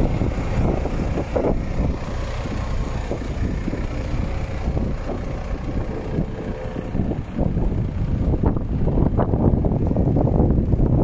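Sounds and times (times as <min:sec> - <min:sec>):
truck diesel engine idling: 0:00.0 - 0:11.0
wind buffeting microphone: 0:00.0 - 0:11.0.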